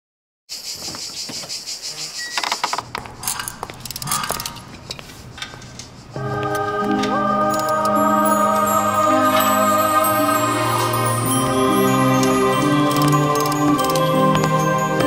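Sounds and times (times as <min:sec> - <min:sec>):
insects chirring: 0:00.5 - 0:15.0.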